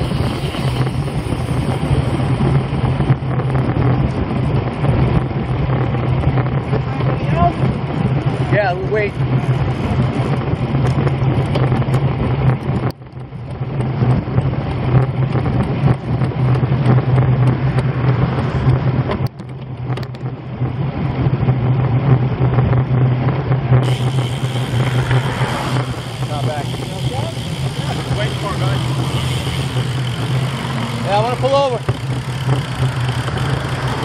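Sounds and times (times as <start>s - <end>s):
road noise rumble: 0.0s - 34.0s
wind rushing over microphone: 0.0s - 34.0s.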